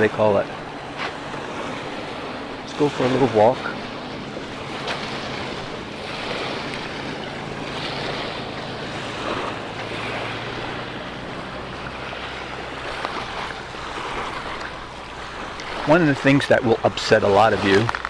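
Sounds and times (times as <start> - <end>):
small waves washing onto shore: 0.0 - 18.0
wind buffeting microphone: 0.0 - 18.0.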